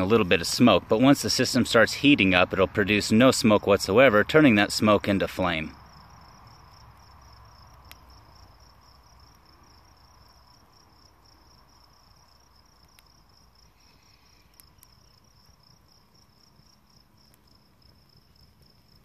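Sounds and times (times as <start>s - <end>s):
burning twigs crackling: 0.0s - 19.0s
crickets chirping: 0.0s - 19.0s.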